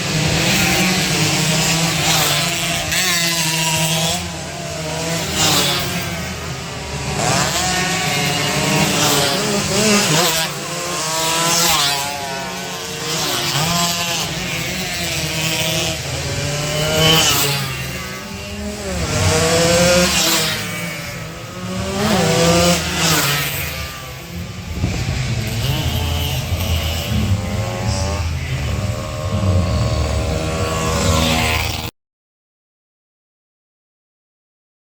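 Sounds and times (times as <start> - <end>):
race motorcycles revving past: 0.0 - 31.9.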